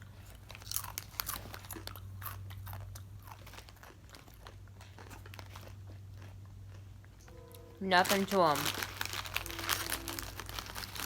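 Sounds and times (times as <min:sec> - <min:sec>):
chips being chewed crunchily: 0:00.0 - 0:07.2, 0:08.1 - 0:11.0
steady low hum: 0:00.0 - 0:11.0.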